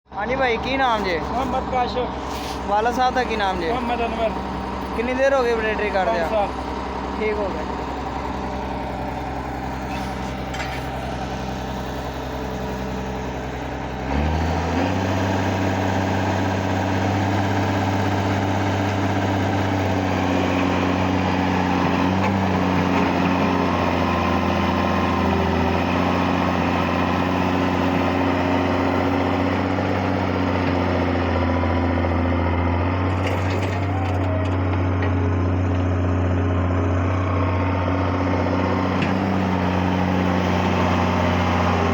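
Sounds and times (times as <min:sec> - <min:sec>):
excavator diesel engine revving: 0:00.2 - 0:41.9.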